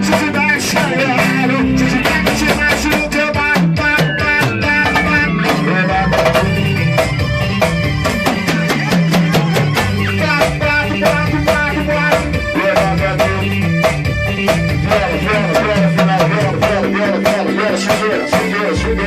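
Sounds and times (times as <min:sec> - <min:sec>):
bass line: 0:00.0 - 0:19.0
busy drum beat: 0:00.0 - 0:19.0
guitar: 0:00.0 - 0:19.0.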